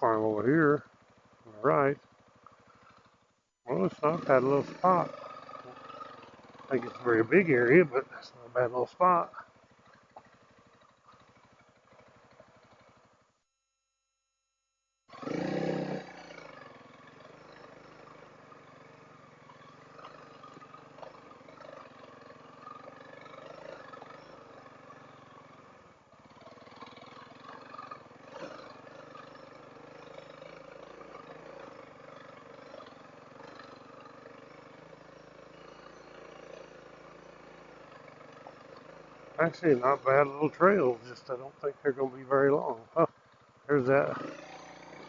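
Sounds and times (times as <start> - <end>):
motorcycle engine running: 0.0 - 13.4, 15.1 - 45.0.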